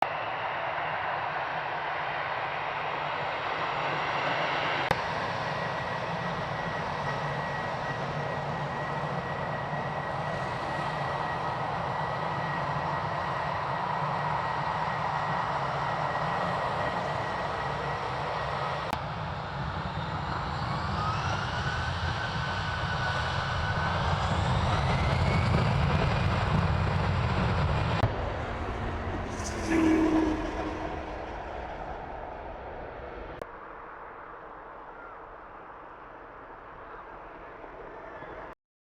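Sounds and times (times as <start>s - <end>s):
jet engines whining: 0.2s - 33.4s.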